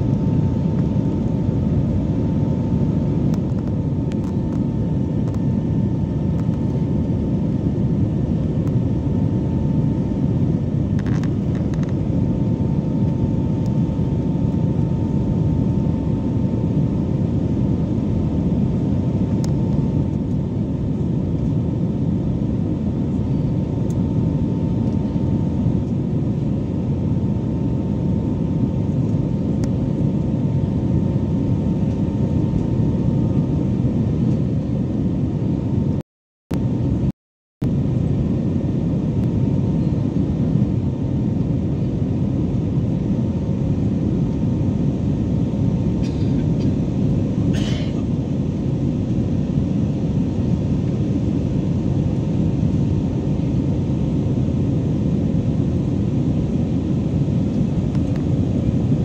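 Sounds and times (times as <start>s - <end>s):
airplane cabin engine roar: 0.0s - 59.0s
faint steady hum: 0.0s - 59.0s.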